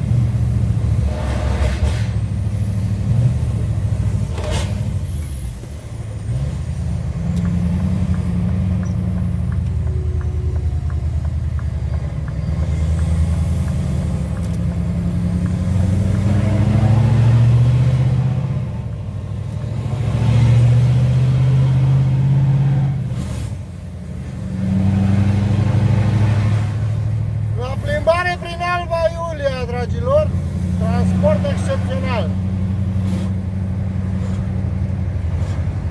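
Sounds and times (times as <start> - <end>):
diesel engine revving under load: 0.0 - 35.9.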